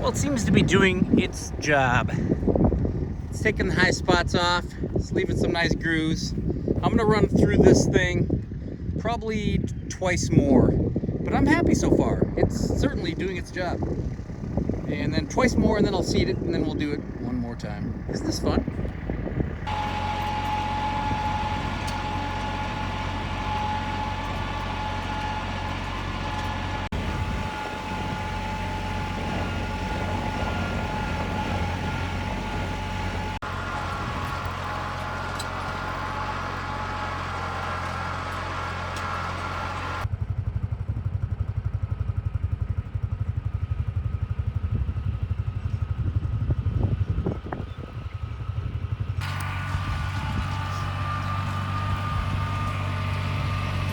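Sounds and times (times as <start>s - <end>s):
vehicle engine under load: 0.0s - 9.0s, 12.2s - 53.9s.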